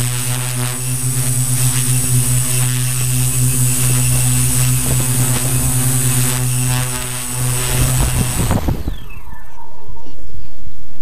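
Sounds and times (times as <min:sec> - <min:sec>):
drone motors humming: 0:00.0 - 0:10.6
faint high whine: 0:00.0 - 0:11.0.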